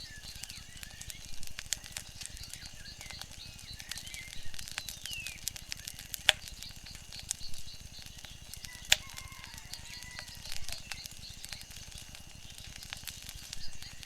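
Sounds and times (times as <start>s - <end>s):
loud fire pops: 0.0s - 14.0s
wood fire crackling: 0.0s - 14.0s.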